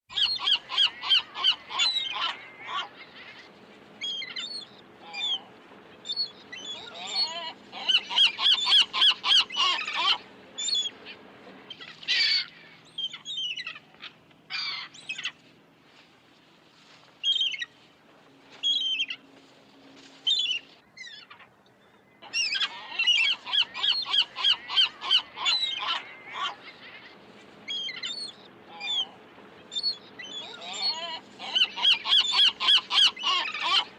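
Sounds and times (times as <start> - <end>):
seagulls calling: 0.1 - 15.4, 17.2 - 17.7, 18.5 - 19.4, 20.0 - 33.9.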